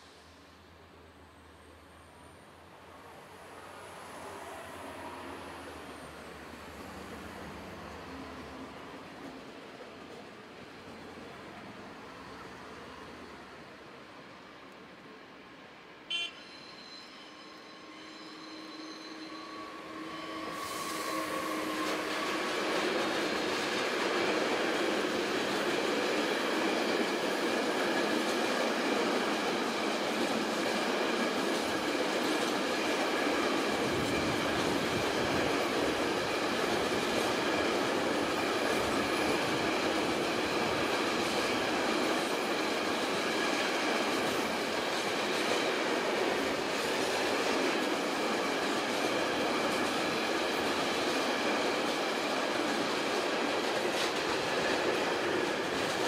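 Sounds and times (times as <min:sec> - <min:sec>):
train running past: 0:00.0 - 0:56.0.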